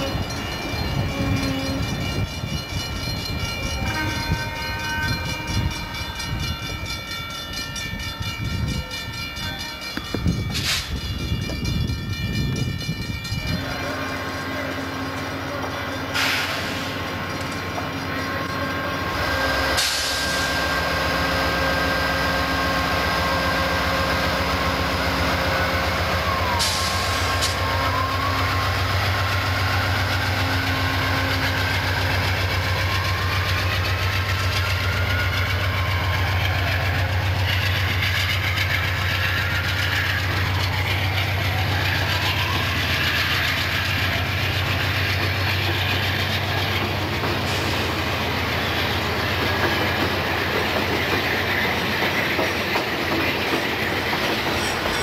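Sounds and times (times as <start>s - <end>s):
diesel locomotive engine droning: 0.0s - 55.0s
train wheels rolling: 0.0s - 55.0s.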